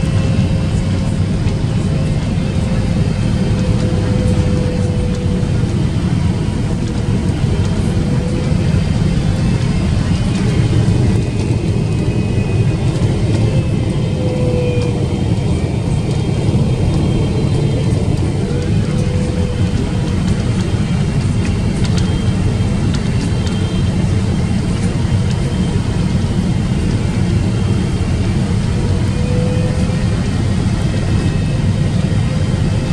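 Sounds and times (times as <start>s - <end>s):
aircraft cabin rumble: 0.0s - 32.9s.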